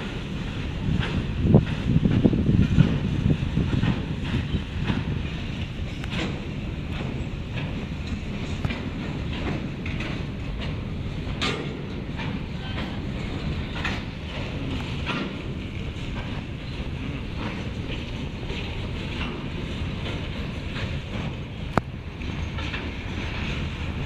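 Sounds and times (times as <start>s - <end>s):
freight train rumbling past: 0.0s - 24.0s
wheels clicking over track: 0.0s - 24.0s.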